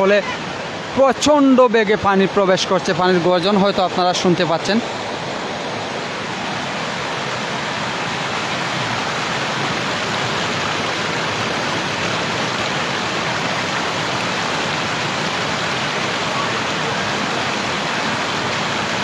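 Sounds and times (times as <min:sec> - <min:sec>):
floodwater rushing roar: 0:00.0 - 0:19.0.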